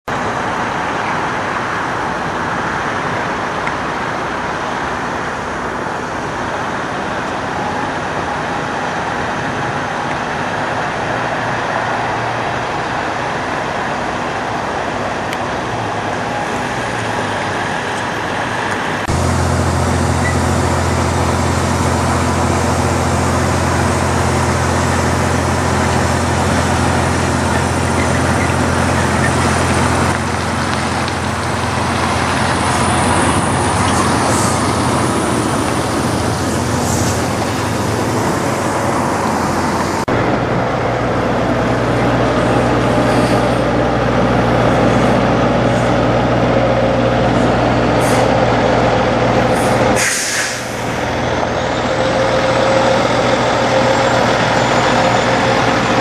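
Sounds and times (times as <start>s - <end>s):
truck engine droning close by: 0.1s - 56.0s
truck passing with road noise: 0.1s - 56.0s.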